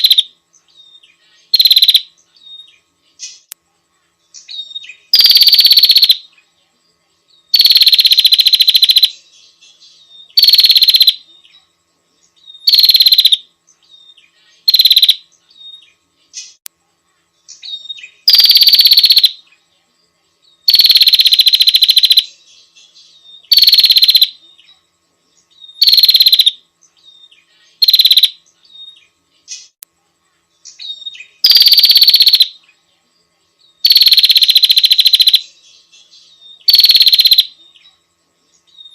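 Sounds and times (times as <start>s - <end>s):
bird buzzy trill: 0.0s - 6.6s, 7.4s - 19.8s, 20.4s - 32.9s, 33.6s - 38.9s.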